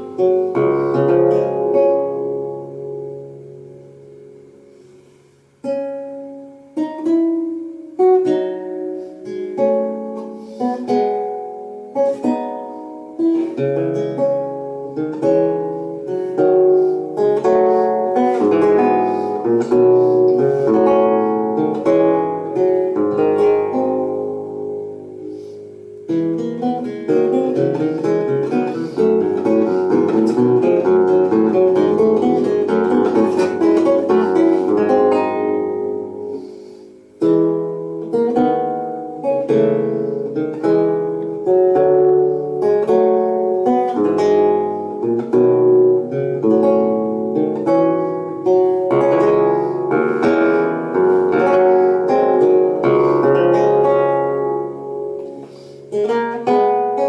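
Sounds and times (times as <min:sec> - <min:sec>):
plucked lute notes and chords: 0:00.0 - 0:57.0.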